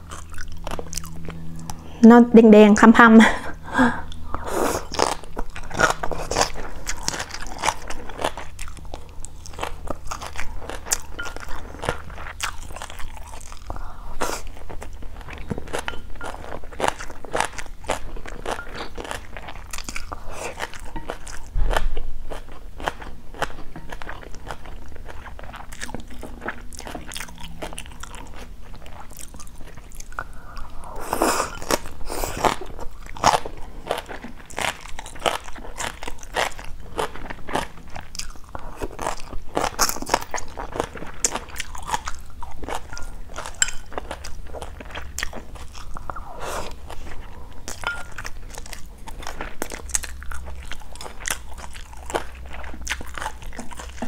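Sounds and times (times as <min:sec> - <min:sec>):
chewing and crunching food: 0:00.0 - 0:02.0, 0:03.5 - 0:54.0.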